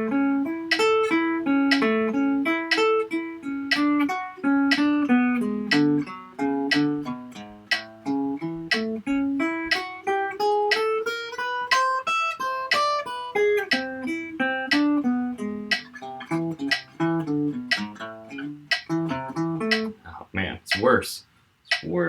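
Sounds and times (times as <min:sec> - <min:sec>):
guitar plucking slow melody: 0:00.0 - 0:20.2.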